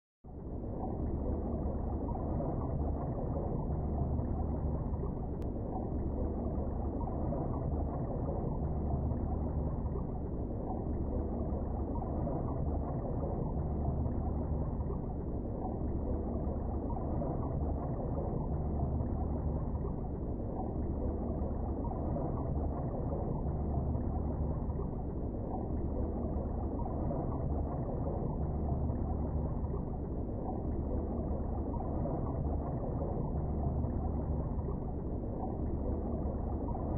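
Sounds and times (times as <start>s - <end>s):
low rumble: 0.3s - 36.9s
muffled underwater river rush: 0.3s - 36.9s.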